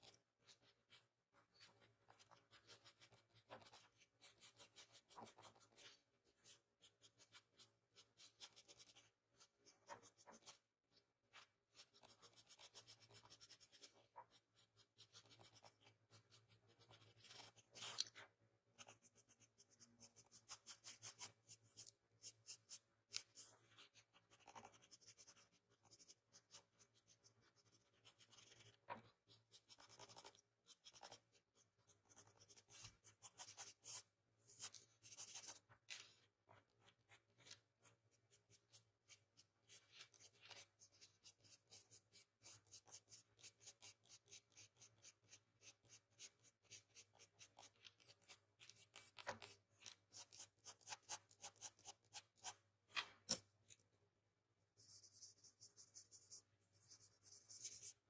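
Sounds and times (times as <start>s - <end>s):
pencil scratching on paper: 0.0s - 52.7s, 54.8s - 58.0s.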